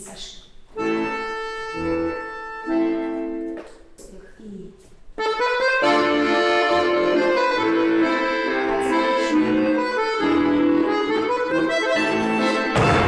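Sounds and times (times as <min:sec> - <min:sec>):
accordion playing a tune: 0:00.7 - 0:03.7, 0:05.2 - 0:13.0.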